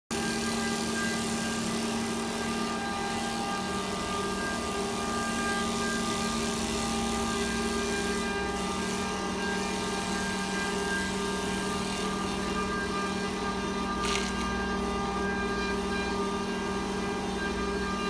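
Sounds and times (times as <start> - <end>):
wood lathe machine hum: 0.2 - 18.0.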